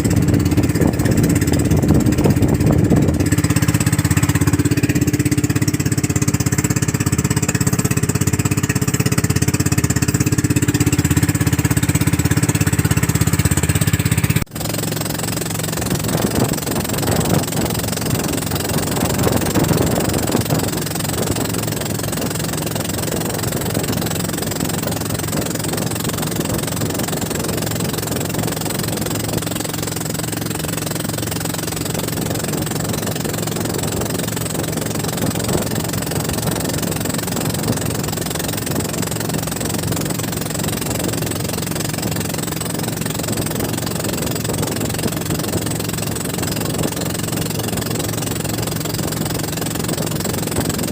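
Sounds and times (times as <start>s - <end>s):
boat engine knocking: 0.0s - 50.9s
water noise: 0.0s - 50.9s.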